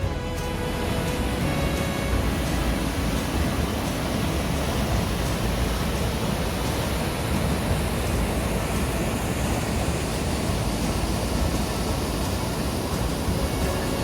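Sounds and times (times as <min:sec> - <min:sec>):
rushing white water: 0:00.0 - 0:14.0.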